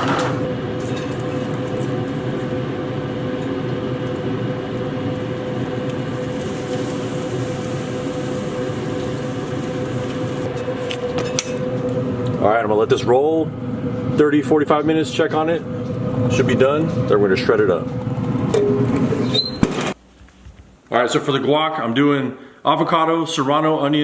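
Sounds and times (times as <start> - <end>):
steady machine hum: 0.0 - 19.2.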